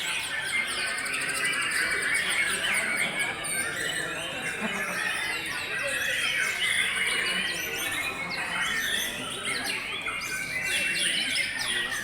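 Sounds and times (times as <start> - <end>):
birds singing in chorus: 0.0 - 12.0.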